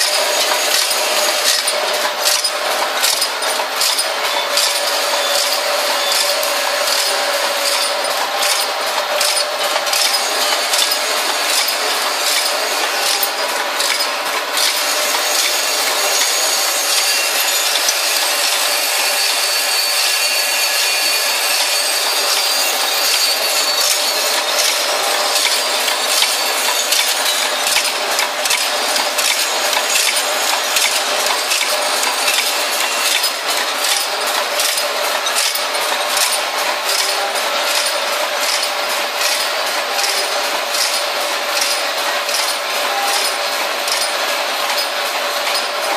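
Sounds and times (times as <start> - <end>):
screws rattling in machine: 0.0 - 45.9.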